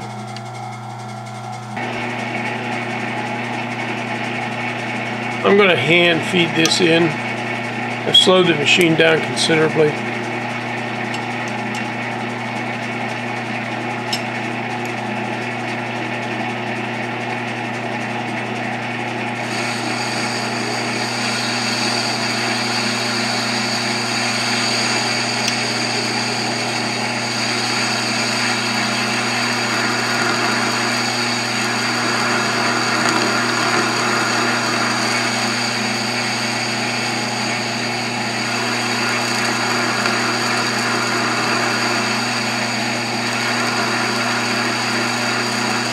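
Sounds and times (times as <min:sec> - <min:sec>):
lathe motor hum: 0:00.0 - 0:45.9.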